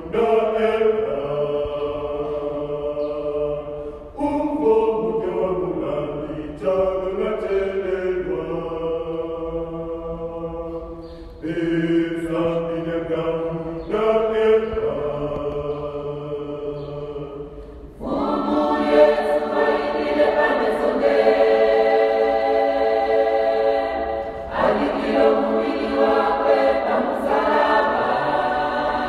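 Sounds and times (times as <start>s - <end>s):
choir singing long notes: 0.0s - 29.0s.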